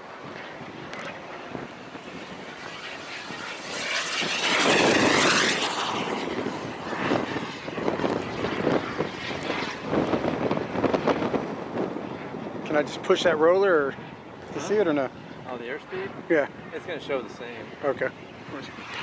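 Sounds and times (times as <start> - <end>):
model airplane propeller: 0.0 - 19.0
wind buffeting microphone: 0.0 - 19.0.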